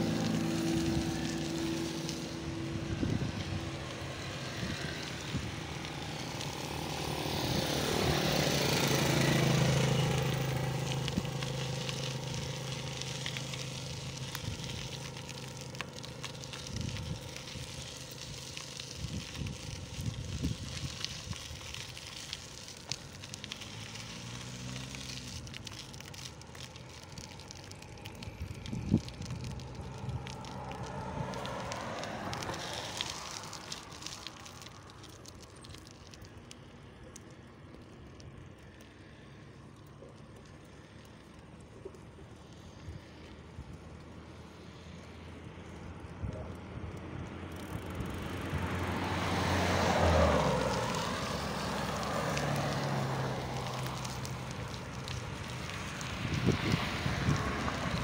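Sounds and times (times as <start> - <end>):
pedicab rolling on concrete: 0.0 - 58.0
vehicle passing: 0.0 - 58.0.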